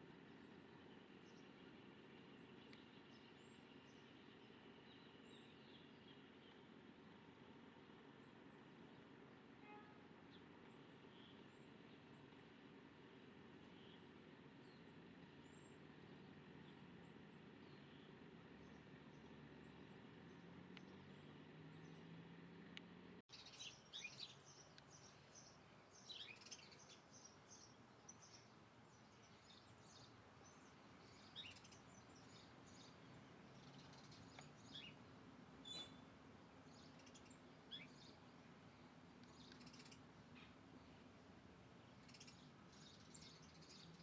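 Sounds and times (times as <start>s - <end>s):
birds chirping faintly: 0.0s - 44.0s.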